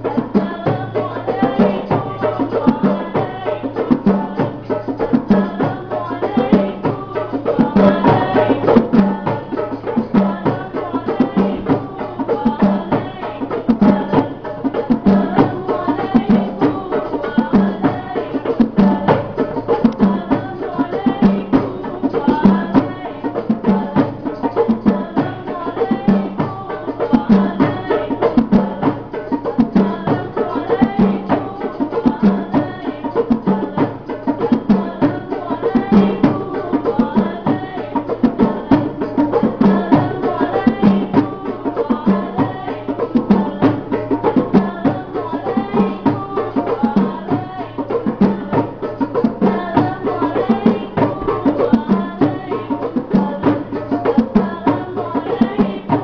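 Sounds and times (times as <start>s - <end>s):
frame drums played by hand: 0.0s - 56.0s
voices singing: 0.0s - 56.0s.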